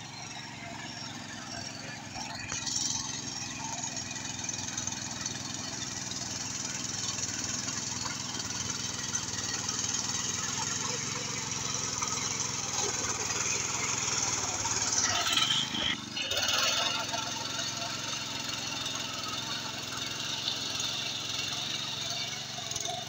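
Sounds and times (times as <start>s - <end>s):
small engine running under load: 0.0s - 23.0s.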